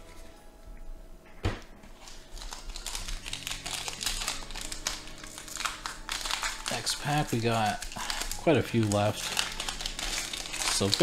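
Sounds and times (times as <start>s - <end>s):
cards clicking and foil crinkling: 1.9s - 11.0s.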